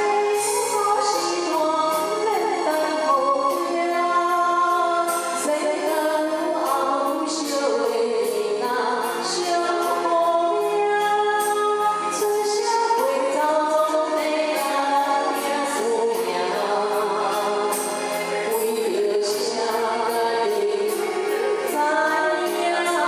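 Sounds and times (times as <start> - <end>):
instrumental accompaniment with beat: 0.0 - 23.0
woman singing into microphone: 0.0 - 23.0.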